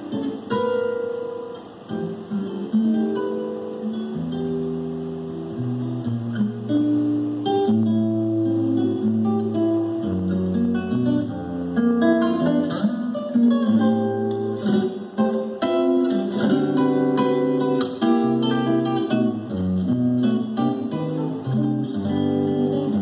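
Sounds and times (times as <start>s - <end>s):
solo classical guitar: 0.0s - 23.0s.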